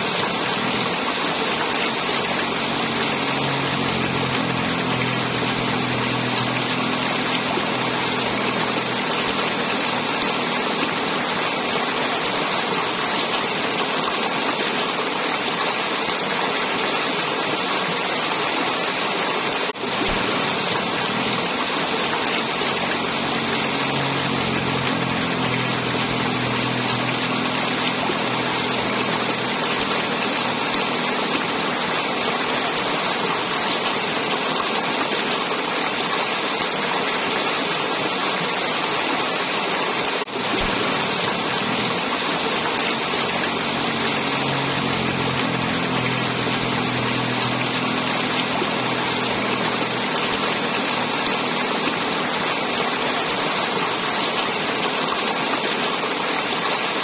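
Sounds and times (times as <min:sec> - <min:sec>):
river water flowing and gurgling: 0:00.0 - 0:57.0.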